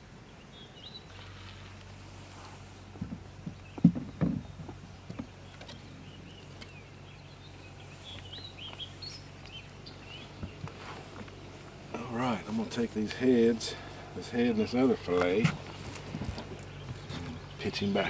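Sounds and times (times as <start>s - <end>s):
birds chirping: 0.0s - 18.0s
low steady hum: 0.0s - 18.0s.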